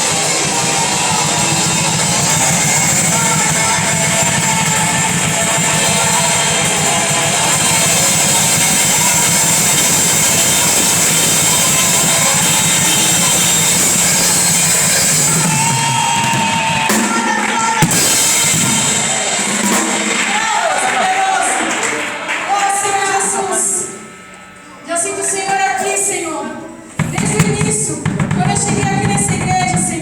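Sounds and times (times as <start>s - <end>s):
drum kit playing: 0.0s - 30.0s
live band music: 0.0s - 30.0s.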